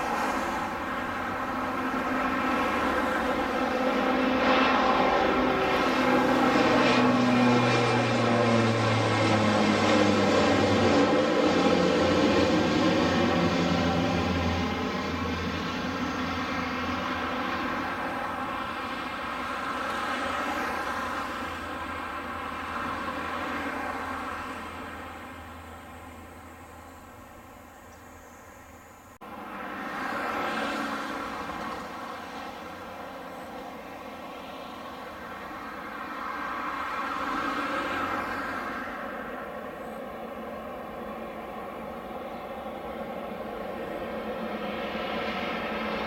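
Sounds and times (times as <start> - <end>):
turboprop plane propeller drone: 0.0 - 46.0.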